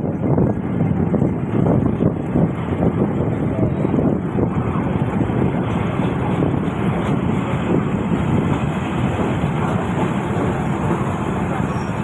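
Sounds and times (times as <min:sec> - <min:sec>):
diesel train running: 0:00.0 - 0:12.0
wind rushing across microphone: 0:00.0 - 0:12.0.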